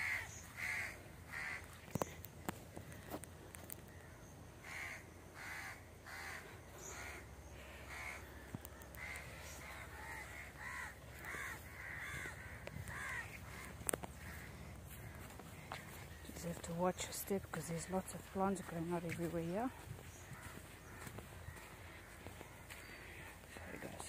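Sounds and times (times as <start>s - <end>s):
bird calling: 0.0s - 3.2s, 3.8s - 24.0s.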